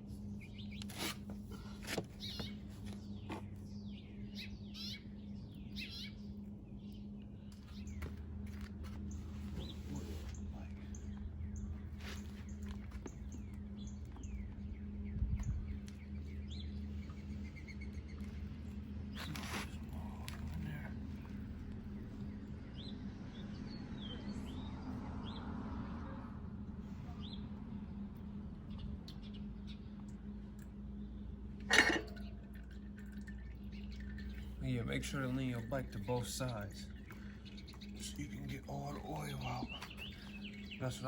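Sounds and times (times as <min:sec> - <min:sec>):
steady low hum: 0:00.0 - 0:41.0
small birds chirping: 0:00.1 - 0:25.5, 0:27.1 - 0:41.0.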